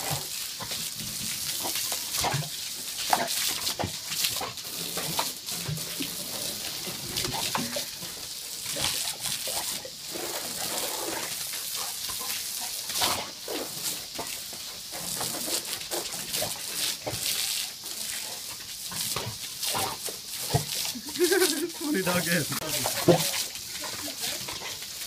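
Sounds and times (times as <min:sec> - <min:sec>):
water spraying from a hose: 0:00.0 - 0:25.0.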